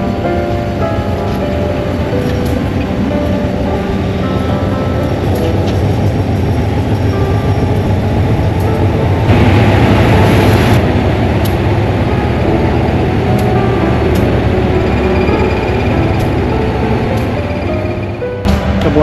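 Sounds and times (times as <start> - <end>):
diesel locomotive rumbling: 0.0 - 19.0.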